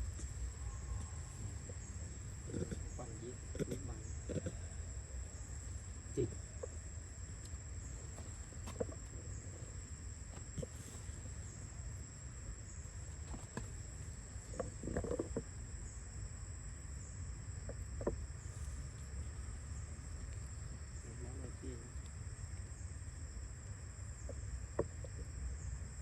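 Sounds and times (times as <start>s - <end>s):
high insect trill: 0.0s - 26.0s.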